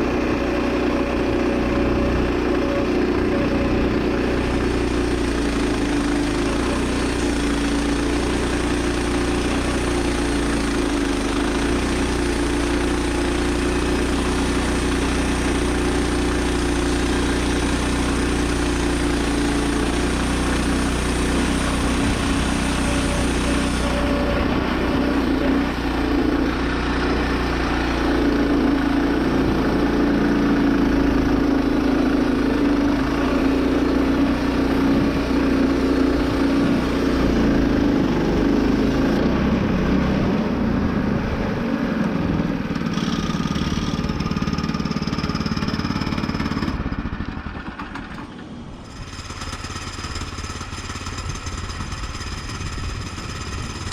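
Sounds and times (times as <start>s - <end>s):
small gas engine running: 0.0s - 53.9s.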